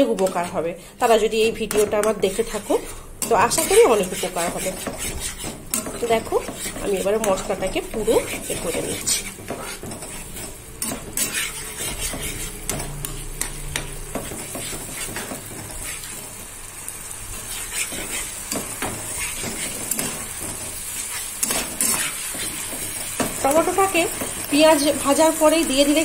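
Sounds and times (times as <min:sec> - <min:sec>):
masala sizzling in a pan: 0:00.0 - 0:26.0
spatula scraping and tapping pan: 0:00.0 - 0:26.0.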